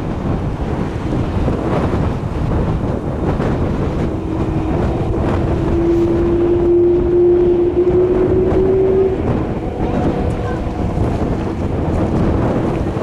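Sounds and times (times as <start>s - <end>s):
wind buffeting microphone: 0.0s - 13.0s
jet engines whining: 1.6s - 13.0s.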